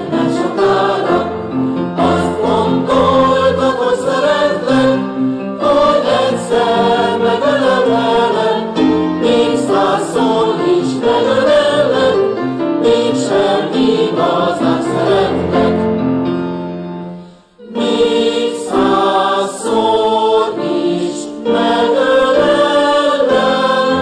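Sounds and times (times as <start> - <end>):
mixed choir singing: 0.0 - 16.0, 17.6 - 24.0.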